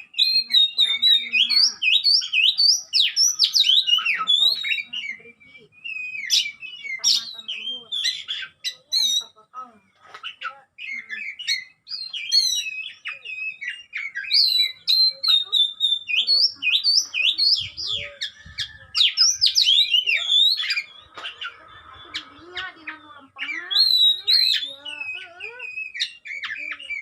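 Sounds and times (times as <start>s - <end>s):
bird singing whistles and chirps: 0.0s - 9.4s, 10.2s - 27.0s.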